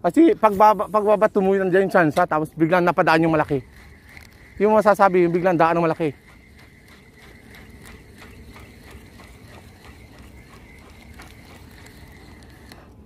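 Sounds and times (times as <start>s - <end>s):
fishing reel whine: 0.0s - 13.0s
reel gear clicks: 2.1s - 13.0s.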